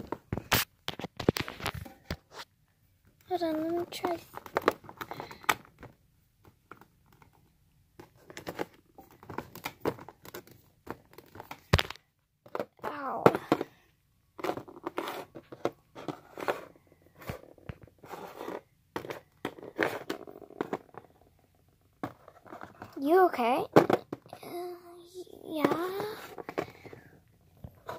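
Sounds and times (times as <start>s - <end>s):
plastic toys clicking and tapping: 3.2s - 24.7s, 25.4s - 27.9s.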